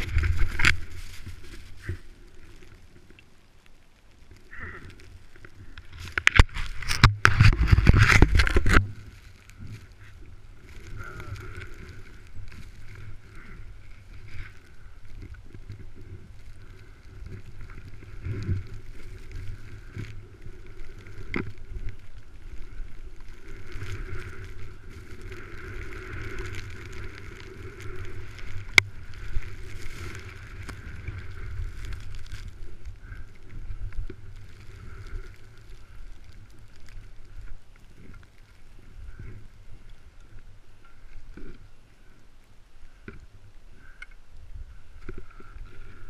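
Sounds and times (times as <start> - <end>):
wind and snow rushing: 0.0 - 2.6, 5.6 - 41.8.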